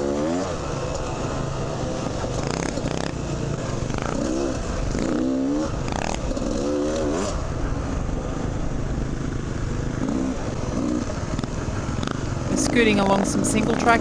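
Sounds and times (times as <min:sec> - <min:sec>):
dirt bike engine revving: 0:00.0 - 0:14.0
steady rush of noise: 0:00.0 - 0:14.0.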